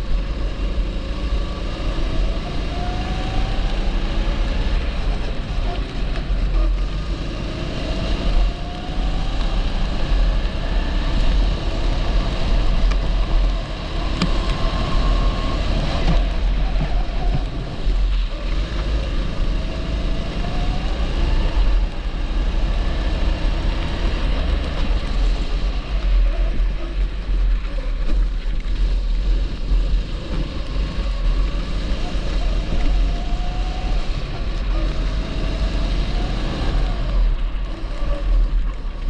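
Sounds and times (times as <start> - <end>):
kart engine accelerating: 0.0 - 39.0
wind rumble on microphone: 0.0 - 39.0.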